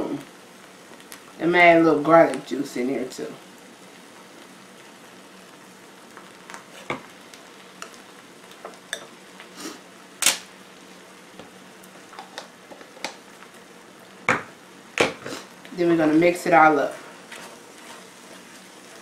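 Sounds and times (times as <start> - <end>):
food sizzling in frying pan: 0.0 - 19.0.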